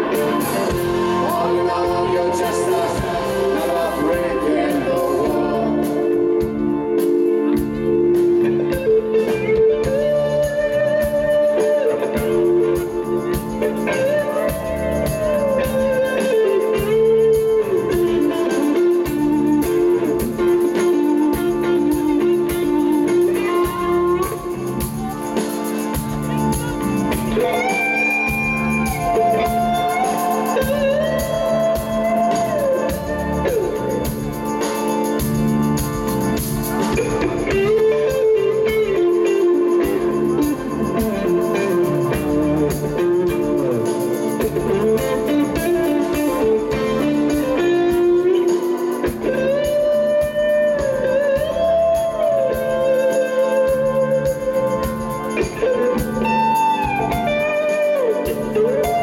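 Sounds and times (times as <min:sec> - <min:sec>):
electric guitar bending notes: 0:00.0 - 0:59.0
rock band playing: 0:00.0 - 0:59.0.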